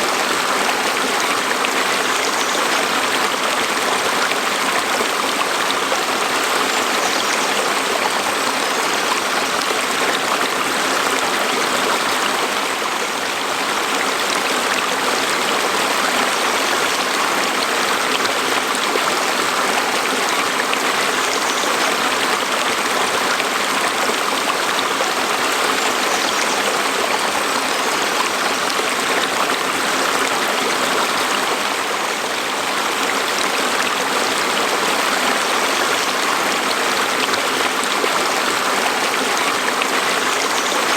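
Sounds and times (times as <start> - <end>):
stream water rushing and babbling: 0.0 - 40.9.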